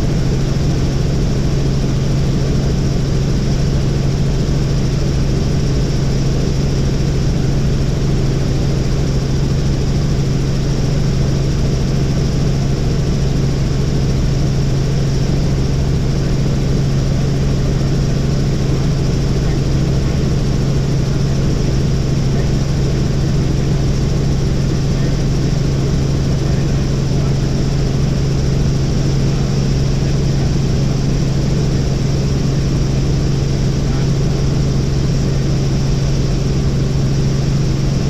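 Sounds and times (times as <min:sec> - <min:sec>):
helicopter engine and rotors drone: 0:00.0 - 0:38.0.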